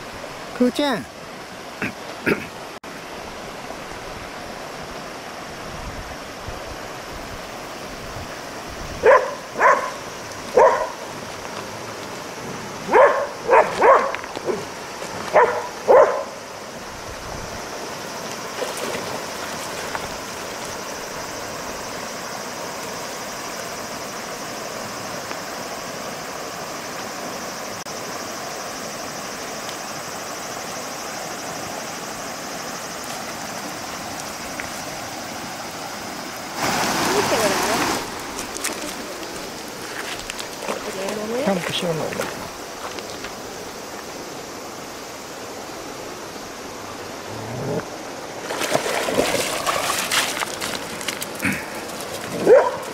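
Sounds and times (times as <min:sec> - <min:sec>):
river rushing over stones: 0:00.0 - 0:52.9.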